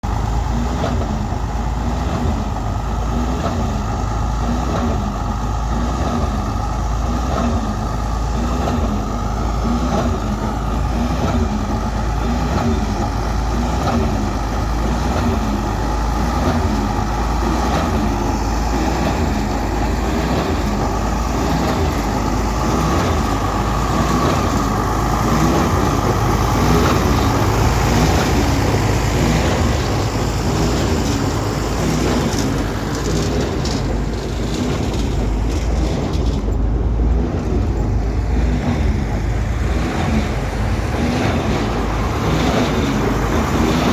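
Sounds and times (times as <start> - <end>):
vehicle engine and road rumble: 0.0 - 43.9.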